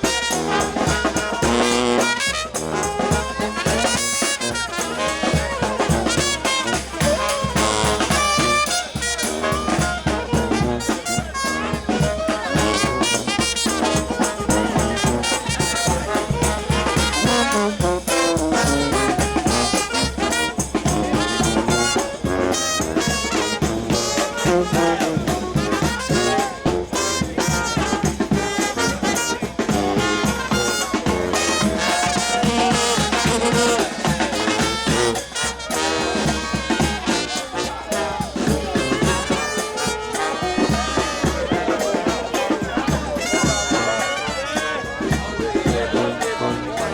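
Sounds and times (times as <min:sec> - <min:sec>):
steady drum beat: 0:00.0 - 0:46.9
trumpets and trombones: 0:00.0 - 0:46.9.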